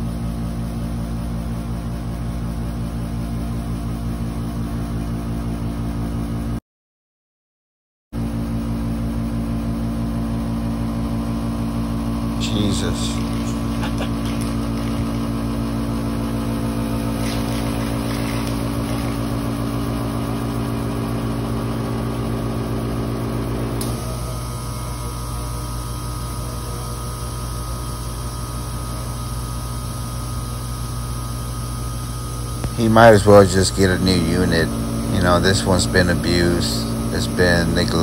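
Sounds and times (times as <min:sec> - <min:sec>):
air conditioner compressor drone: 0:00.0 - 0:06.6, 0:08.2 - 0:38.0.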